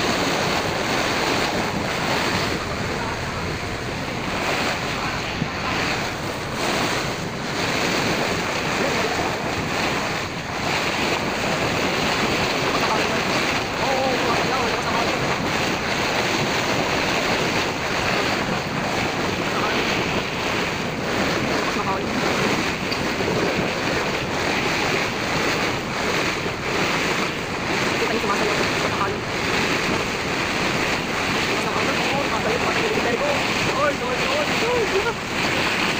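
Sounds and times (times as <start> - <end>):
choppy waves around boat: 0.0 - 35.9
sea water churning: 0.0 - 35.9
wind on microphone: 0.0 - 35.9.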